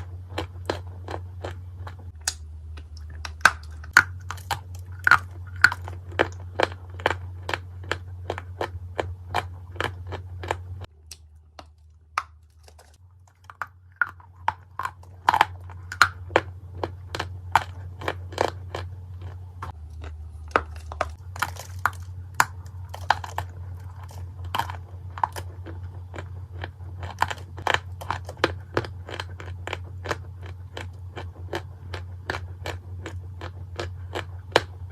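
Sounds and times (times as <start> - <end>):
clay lumps crunching and cracking: 0.0 - 34.9
steady low hum: 0.0 - 34.9.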